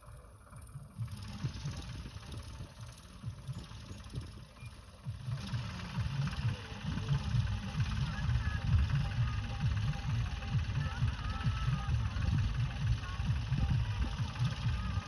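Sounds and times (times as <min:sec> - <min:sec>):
tractor diesel engine rumbling: 0:00.0 - 0:15.0.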